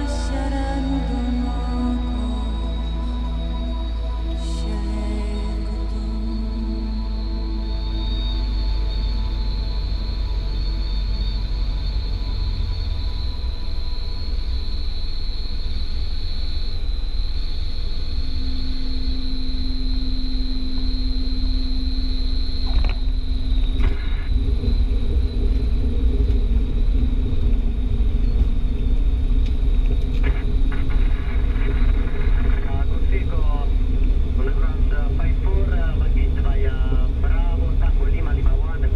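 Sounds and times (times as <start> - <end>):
propeller airplane engine rumble: 0.0 - 38.9.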